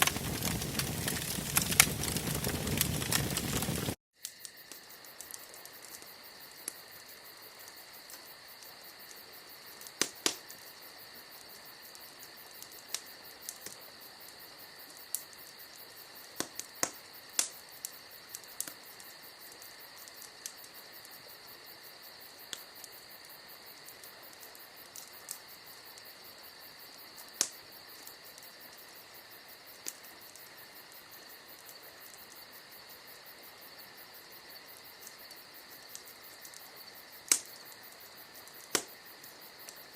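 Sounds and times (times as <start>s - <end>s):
wood fire crackling and popping: 0.0s - 6.8s, 7.4s - 21.2s, 22.2s - 26.2s, 27.0s - 28.9s, 29.7s - 32.4s, 34.5s - 39.9s
crickets chirping: 0.0s - 39.9s.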